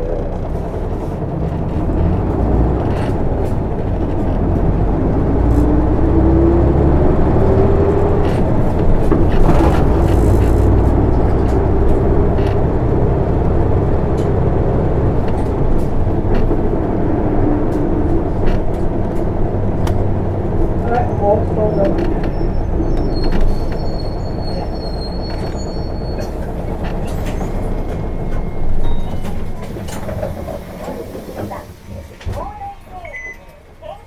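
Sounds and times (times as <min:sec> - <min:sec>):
bus diesel engine accelerating: 0:00.0 - 0:34.0.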